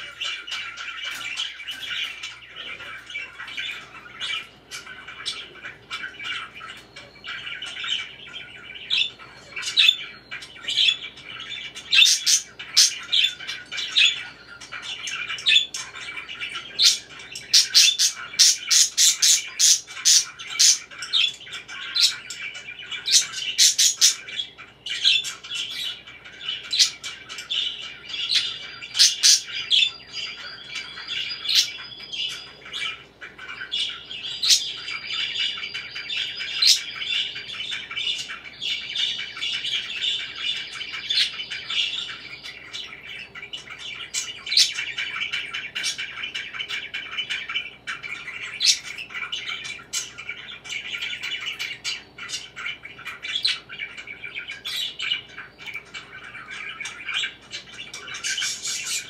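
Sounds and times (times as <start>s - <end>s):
budgerigars chattering and warbling: 0.0s - 59.0s.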